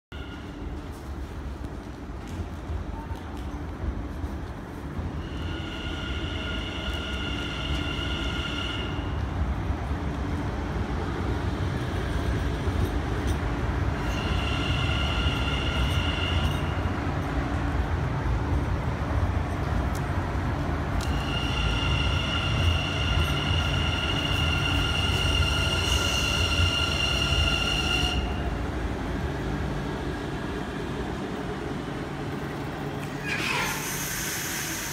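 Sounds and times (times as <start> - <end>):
train wheels rumbling on track: 0.1 - 34.9.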